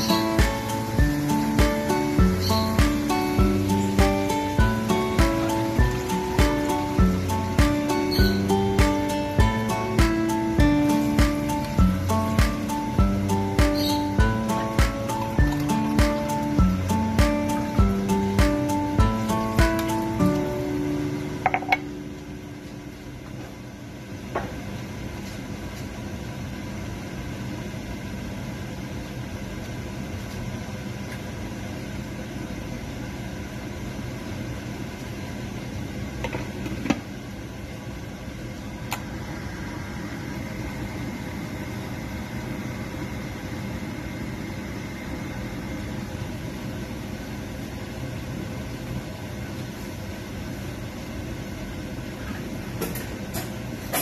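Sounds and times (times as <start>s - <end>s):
stove humming and hissing: 0.0s - 54.0s.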